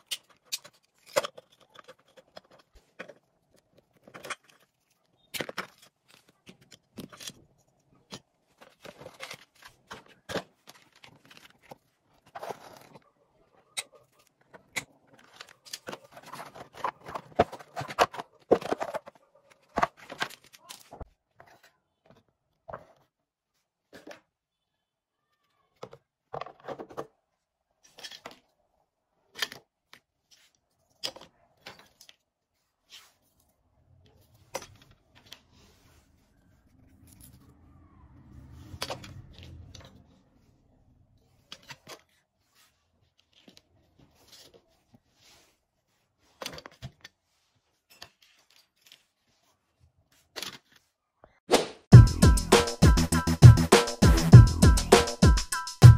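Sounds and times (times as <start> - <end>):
plastic parts rustling: 0.0 - 24.4, 25.7 - 37.5, 41.1 - 51.0.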